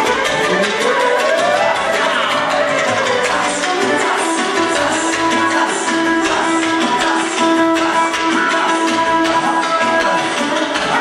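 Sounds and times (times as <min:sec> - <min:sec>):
held melody notes: 0:00.0 - 0:10.5
hand drum beat: 0:00.0 - 0:11.0.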